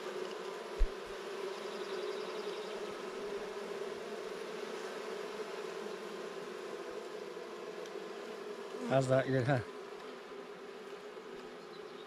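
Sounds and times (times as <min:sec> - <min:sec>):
bees humming: 0:00.0 - 0:12.0.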